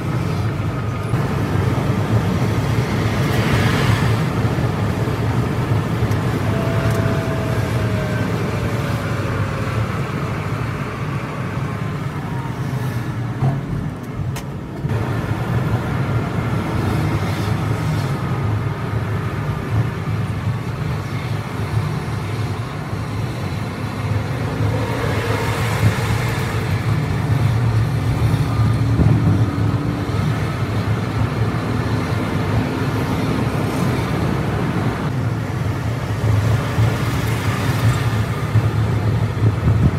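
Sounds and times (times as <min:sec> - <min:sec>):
bus engine and road noise: 0:00.0 - 0:39.9.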